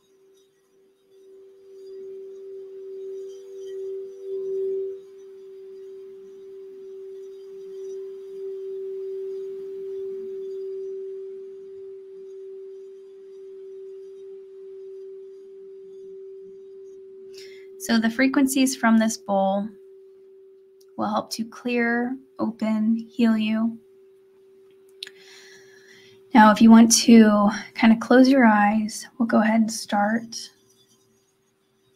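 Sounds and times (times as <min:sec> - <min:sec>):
singing bowl tone: 0:00.0 - 0:31.9.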